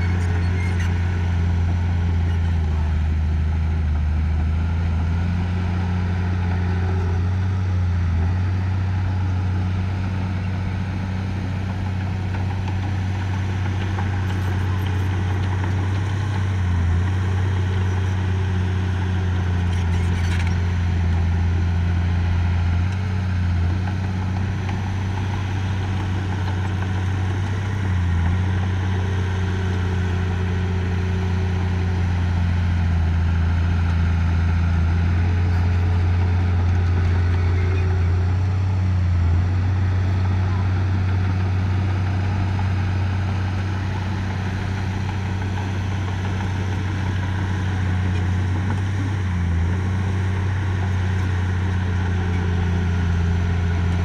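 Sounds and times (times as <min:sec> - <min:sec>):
heavy machine diesel engine: 0:00.0 - 0:54.0.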